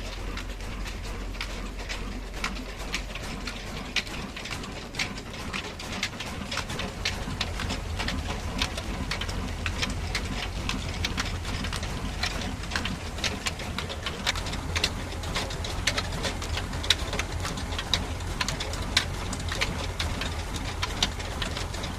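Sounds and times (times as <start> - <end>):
flour mill engine humming: 0.0 - 21.9
sharp clicks and ticks: 0.0 - 21.9.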